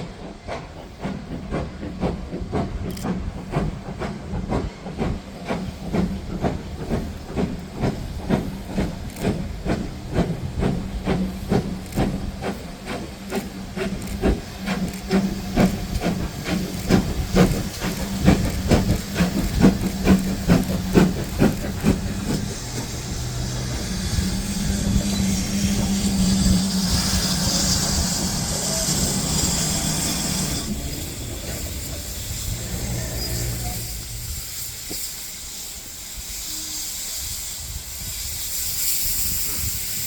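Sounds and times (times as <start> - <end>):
hiss of steam: 0.0 - 40.0
steam locomotive exhaust beats: 0.0 - 40.0.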